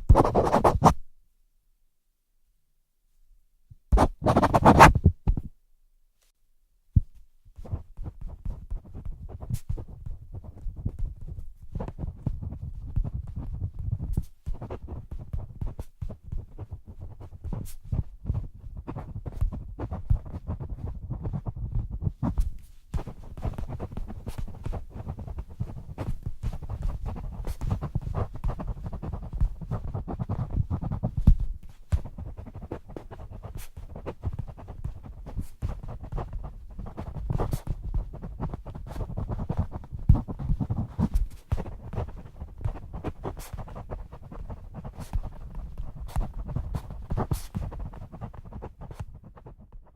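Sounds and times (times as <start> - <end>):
pen scratching on paper: 0.0 - 1.0, 3.9 - 5.0, 7.6 - 49.9.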